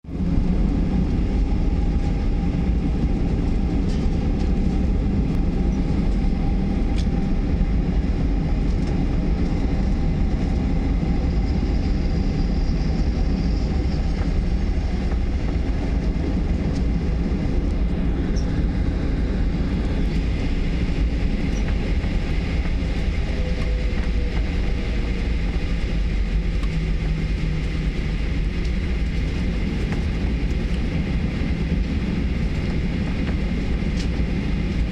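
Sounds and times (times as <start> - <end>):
jet airliner taking off: 0.0 - 34.9.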